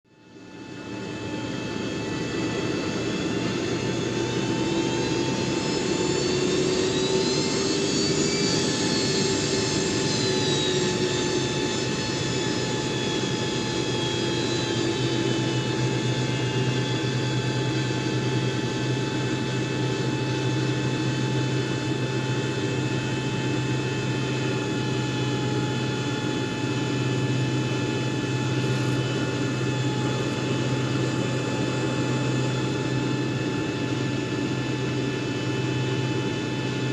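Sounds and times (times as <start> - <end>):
jet engines idling: 0.3 - 36.9.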